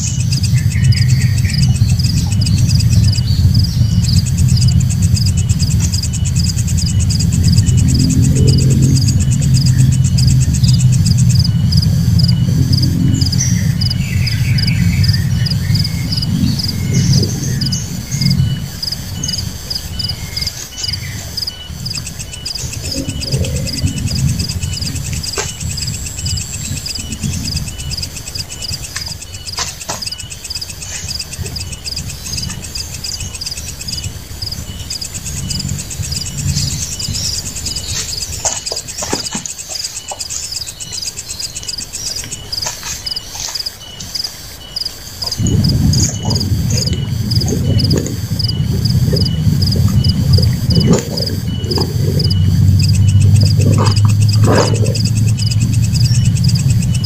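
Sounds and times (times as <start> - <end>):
insect chirps: 0.0 - 57.0.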